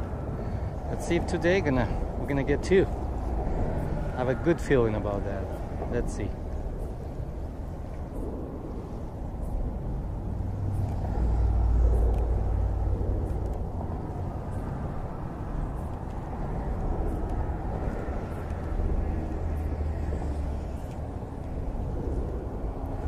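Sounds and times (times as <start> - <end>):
traffic rumble on bridge: 0.0 - 23.0
wind on microphone: 0.0 - 23.0.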